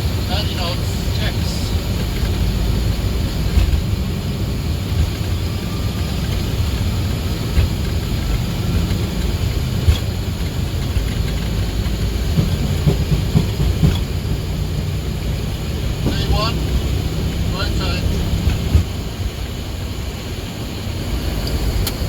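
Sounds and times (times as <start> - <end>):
jet engines at takeoff thrust: 0.0 - 22.0
wheels rumbling on runway: 0.0 - 22.0.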